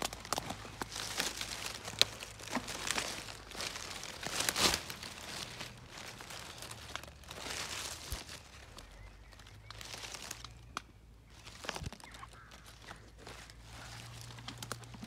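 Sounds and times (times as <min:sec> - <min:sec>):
leaves and twigs rustling: 0:00.0 - 0:15.0.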